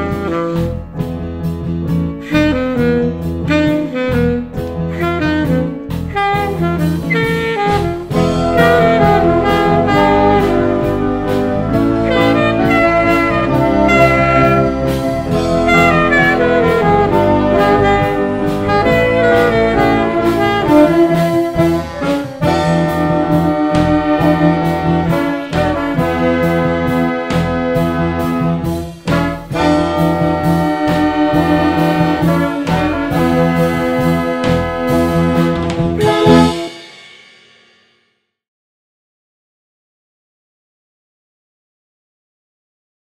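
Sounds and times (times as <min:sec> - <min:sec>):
jazz ensemble playing: 0:00.0 - 0:36.8.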